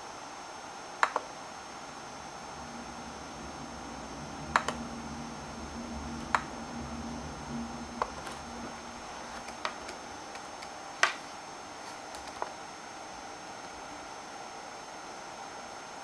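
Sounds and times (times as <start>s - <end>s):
faint low hum: 0.0s - 14.6s.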